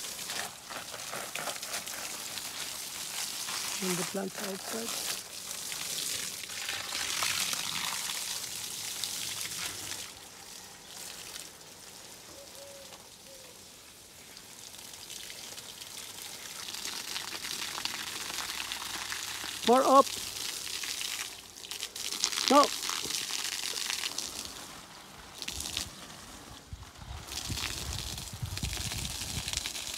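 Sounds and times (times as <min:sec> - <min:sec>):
water spraying from a garden hose: 0:00.0 - 0:29.9.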